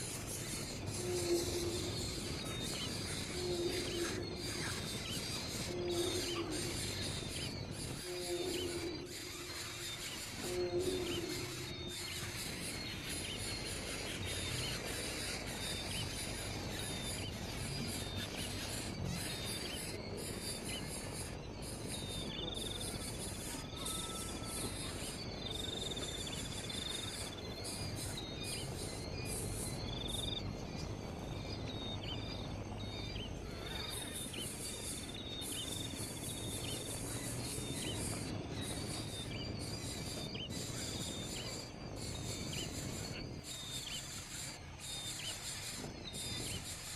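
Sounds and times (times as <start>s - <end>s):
insects buzzing: 0.0s - 46.9s.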